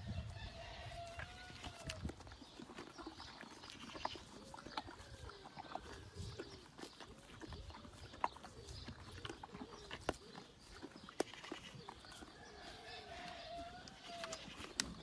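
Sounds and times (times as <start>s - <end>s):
horse chewing melon: 0.1s - 15.0s.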